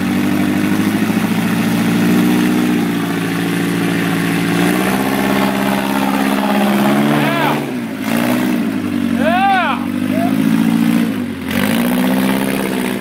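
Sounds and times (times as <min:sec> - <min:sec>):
buggy engine running at low revs: 0:00.0 - 0:13.0.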